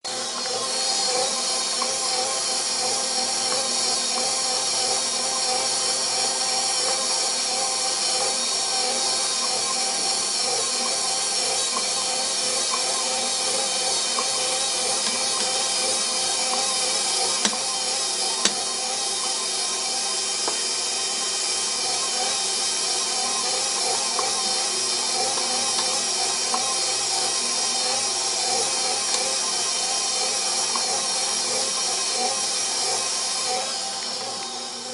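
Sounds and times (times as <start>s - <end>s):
stand mixer motor whine: 0.0s - 34.9s.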